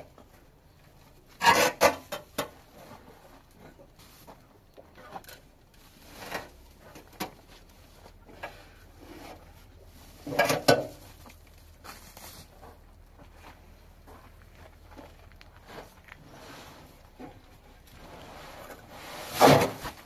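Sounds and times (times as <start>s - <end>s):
sack and shovel rustling and scraping: 1.3s - 20.0s.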